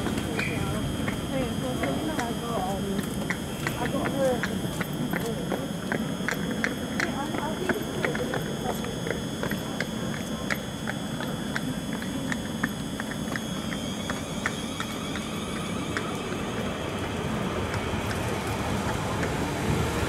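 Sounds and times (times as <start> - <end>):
electric train running noise: 0.0 - 20.0
rising motor whine: 0.0 - 20.0.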